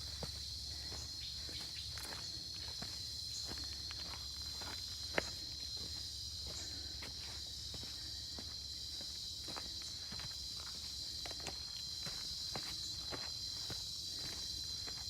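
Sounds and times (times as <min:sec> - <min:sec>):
footsteps on ground: 0:00.0 - 0:15.0
jungle insects droning: 0:00.0 - 0:15.0.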